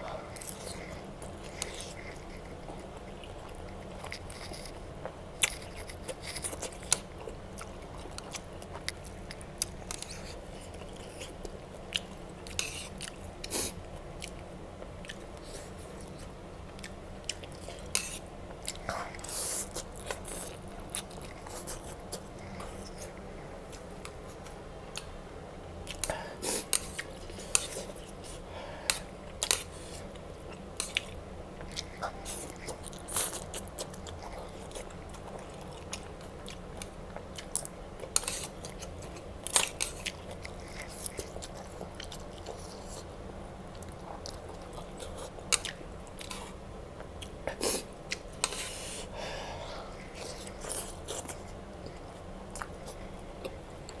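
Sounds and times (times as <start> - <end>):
chewing noodles: 0.1 - 25.1, 25.8 - 49.1, 49.9 - 54.0.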